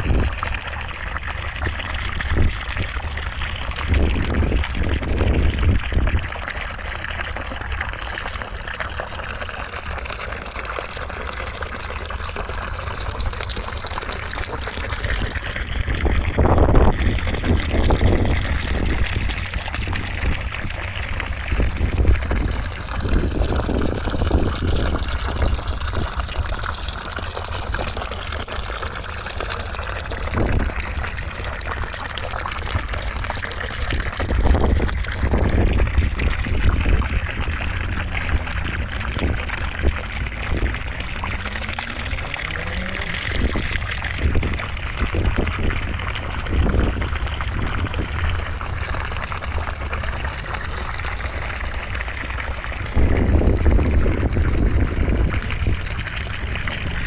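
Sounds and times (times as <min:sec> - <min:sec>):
gushing running water rush: 0:00.0 - 0:57.0.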